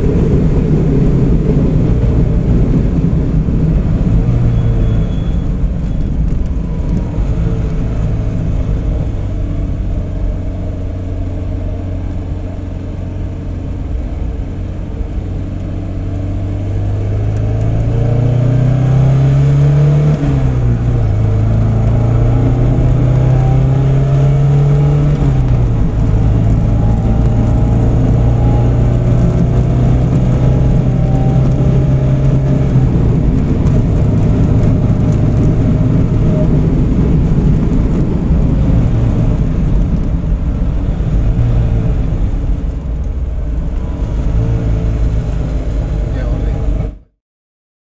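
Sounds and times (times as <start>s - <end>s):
car engine revving and shifting: 0.0s - 47.1s.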